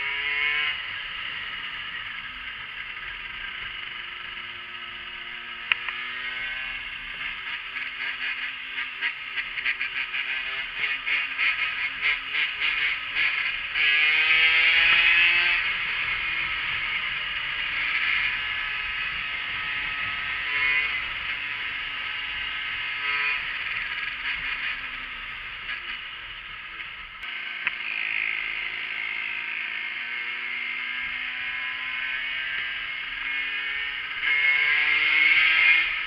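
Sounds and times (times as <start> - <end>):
moped engine revving: 0.0 - 36.0.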